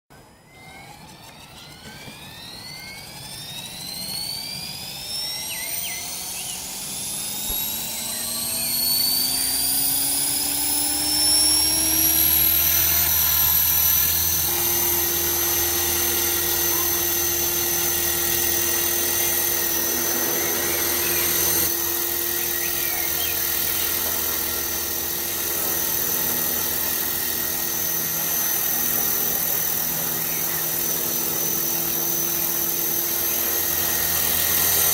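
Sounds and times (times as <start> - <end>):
rc helicopter motor whine: 0.1 - 34.9.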